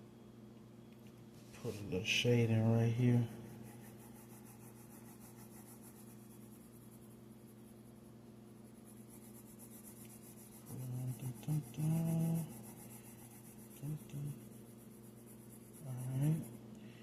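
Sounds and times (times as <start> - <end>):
faint steady low hum: 0.0 - 17.0
pencil shading on paper: 2.9 - 16.6.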